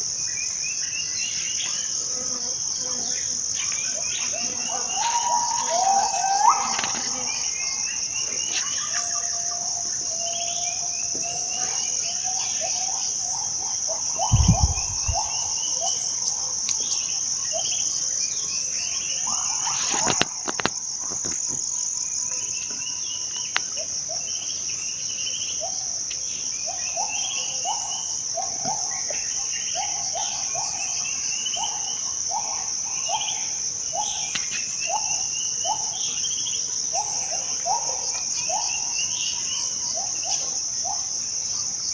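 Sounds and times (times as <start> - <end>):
insects droning: 0.0 - 41.9
birds calling: 2.9 - 21.6, 22.4 - 41.1.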